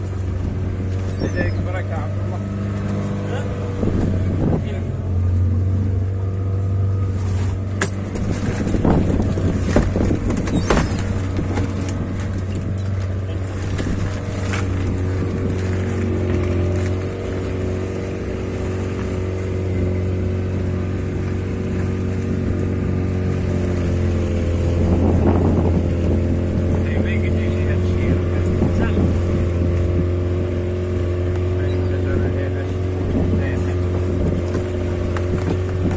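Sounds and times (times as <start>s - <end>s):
boat engine humming: 0.0s - 35.9s.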